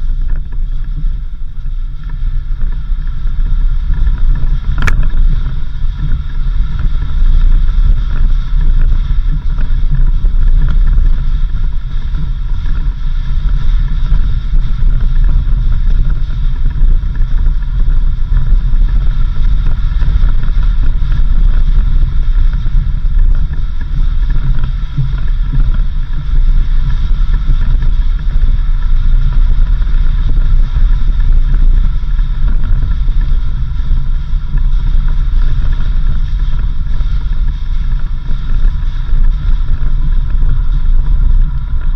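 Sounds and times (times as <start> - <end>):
vehicle engine and road rumble: 0.0 - 41.9
wind noise on microphone: 0.0 - 41.9.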